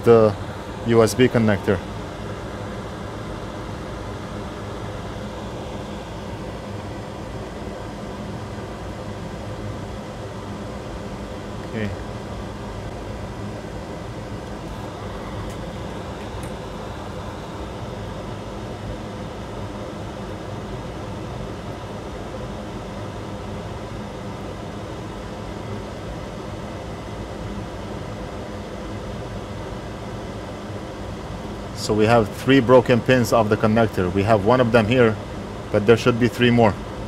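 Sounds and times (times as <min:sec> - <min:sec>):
fan hum and hiss: 0:00.0 - 0:37.0
low steady drone: 0:00.0 - 0:37.0.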